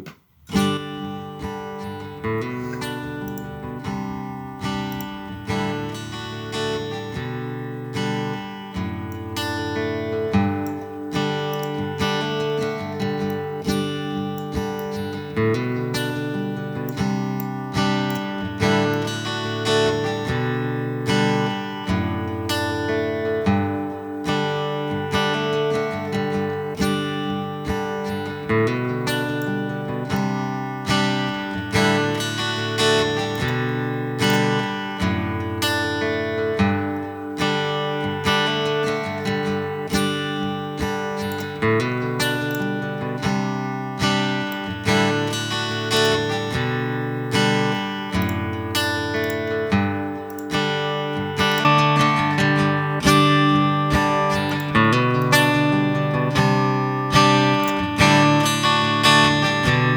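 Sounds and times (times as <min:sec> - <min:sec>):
acoustic guitar strumming and picking: 0:00.0 - 0:59.9.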